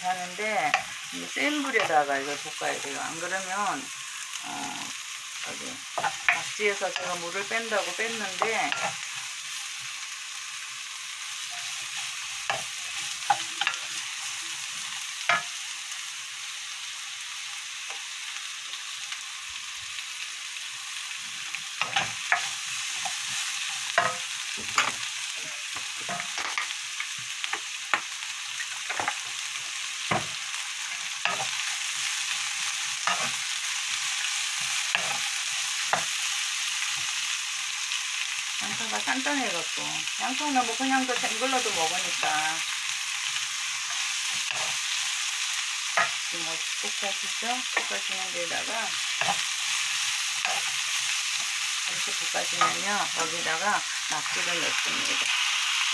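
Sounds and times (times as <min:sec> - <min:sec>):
vegetables sizzling in oil: 0:00.0 - 0:55.9.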